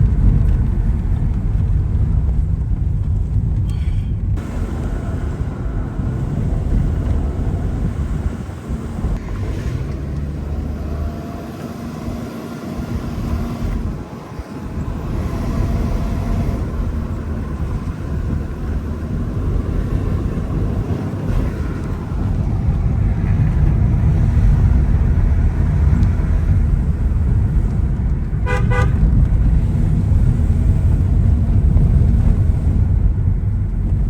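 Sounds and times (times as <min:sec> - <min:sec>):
vehicle engine road and wind rumble: 0:00.0 - 0:34.0.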